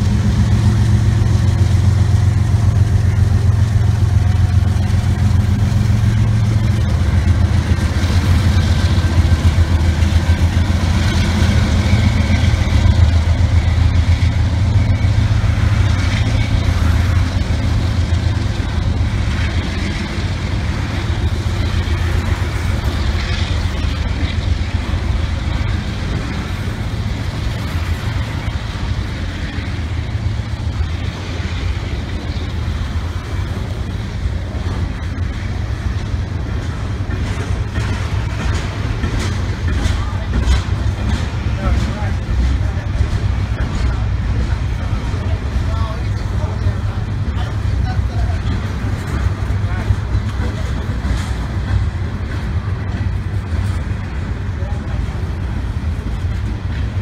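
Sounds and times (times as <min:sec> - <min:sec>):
diesel locomotive engines droning: 0:00.0 - 0:57.0
freight cars rolling by: 0:00.0 - 0:57.0.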